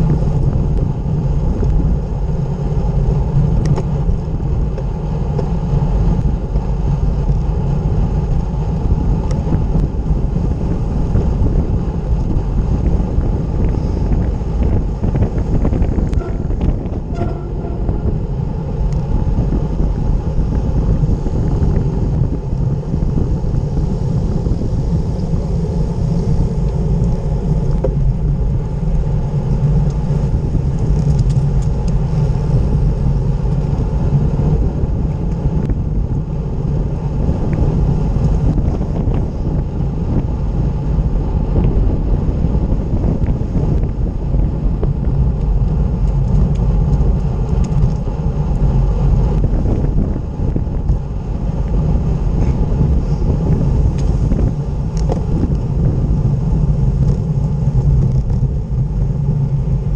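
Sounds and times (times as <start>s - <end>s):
bike tyres rumbling on tarmac: 0.0s - 59.9s
wind rushing over microphone: 0.0s - 59.9s.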